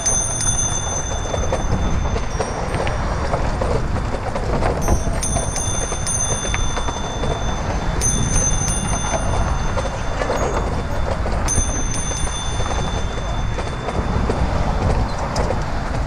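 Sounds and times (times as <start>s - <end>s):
bicycle bell ringing: 0.0s - 15.8s
tyres rumbling on wooden planks: 0.0s - 16.0s
wind on microphone: 0.0s - 16.0s.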